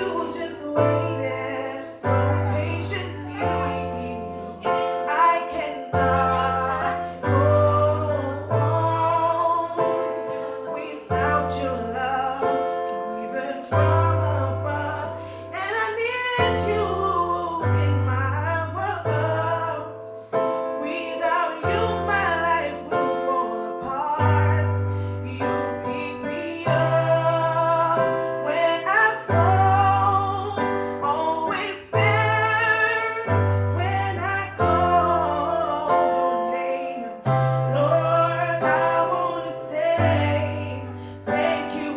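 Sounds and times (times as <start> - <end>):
woman singing: 0.0 - 19.8, 20.8 - 37.2, 37.8 - 41.9
keyboard accompaniment: 0.0 - 41.9.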